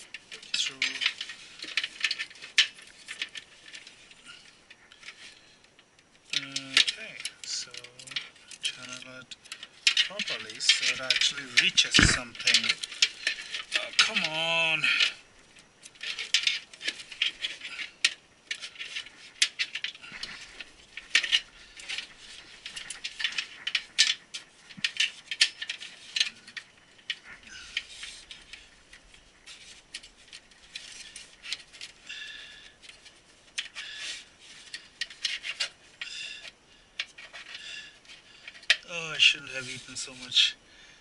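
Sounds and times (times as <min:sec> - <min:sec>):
cables and plastic connectors rattling: 0:00.0 - 0:40.6.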